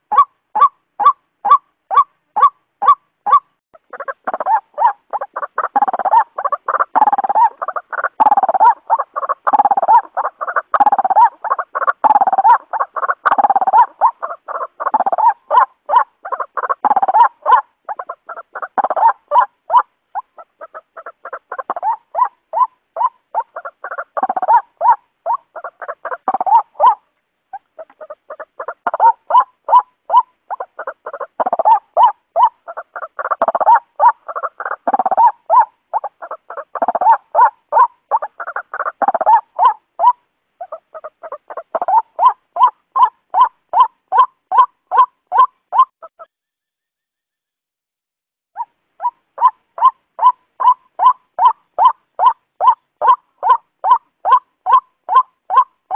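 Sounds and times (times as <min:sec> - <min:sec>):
waterhen croaking calls: 0:00.0 - 0:46.6, 0:48.6 - 0:55.9.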